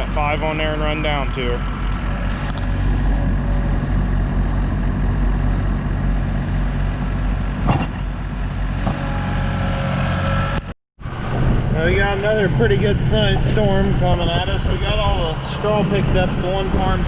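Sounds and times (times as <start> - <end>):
farm vehicle engine running: 0.0 - 17.0.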